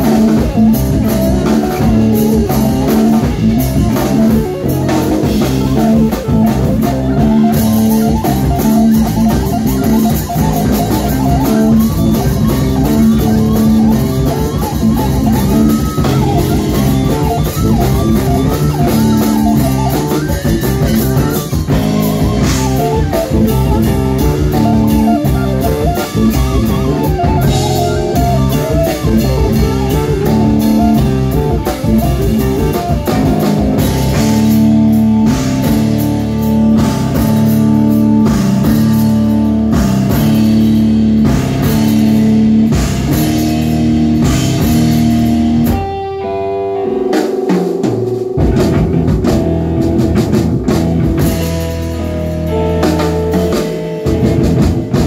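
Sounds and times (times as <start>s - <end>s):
drum kit: 0.0s - 55.0s
electric bass guitar: 0.0s - 55.0s
keyboards: 0.0s - 55.0s.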